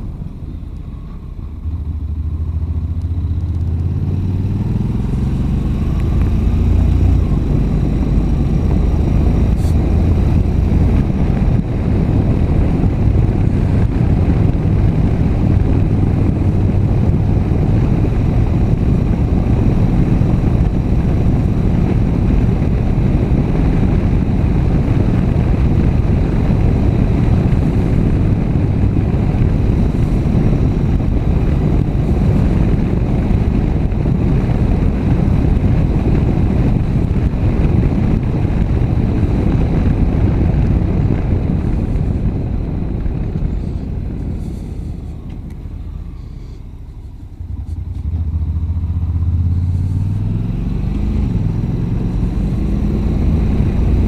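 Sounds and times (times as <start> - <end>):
motorcycle engine droning: 0.0 - 54.0
wind rushing on microphone: 0.0 - 54.0.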